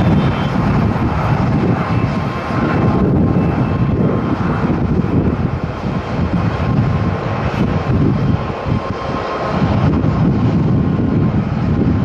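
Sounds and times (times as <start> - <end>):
jet engines roaring: 0.0 - 12.0
wind buffeting microphone: 0.0 - 12.0.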